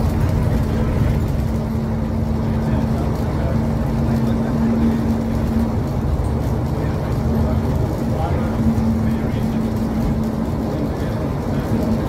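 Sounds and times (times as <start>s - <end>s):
bus engine and road rumble: 0.0s - 12.0s
constant hum: 0.0s - 12.0s.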